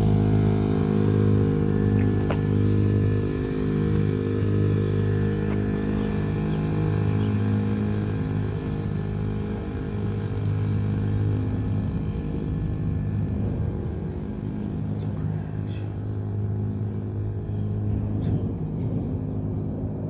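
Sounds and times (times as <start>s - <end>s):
dirt bike engine at low revs: 0.0s - 20.0s.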